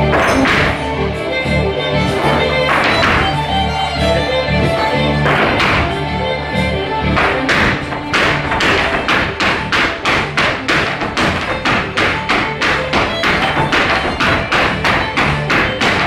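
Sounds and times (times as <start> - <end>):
live band music: 0.0 - 15.9
hard shoes striking stage: 0.0 - 16.0.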